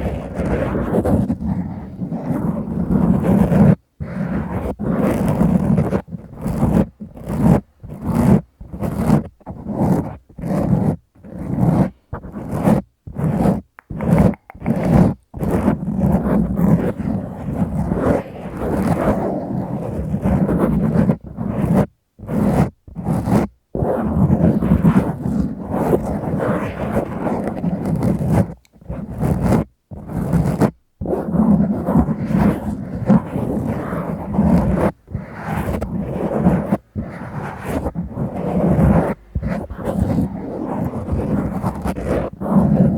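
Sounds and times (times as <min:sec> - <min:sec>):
fingers scratching foam windscreen: 0:00.0 - 0:42.9.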